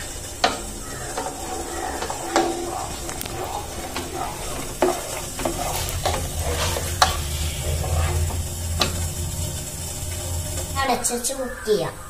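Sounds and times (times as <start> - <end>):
ladle stirring thick soup: 0.0 - 10.8
low steady hum: 0.0 - 12.0.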